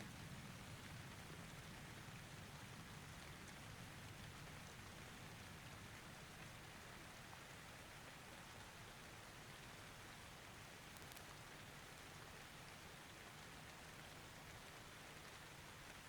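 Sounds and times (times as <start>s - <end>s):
faint steady rain: 0.0s - 16.0s.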